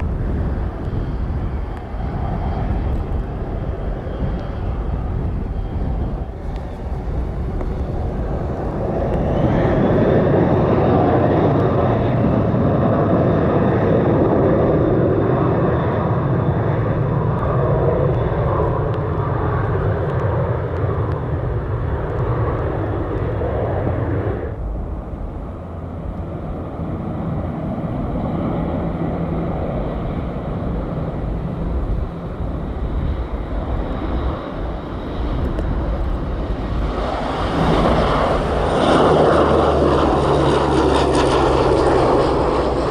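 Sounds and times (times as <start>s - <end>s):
airplane engines running: 0.0s - 42.9s.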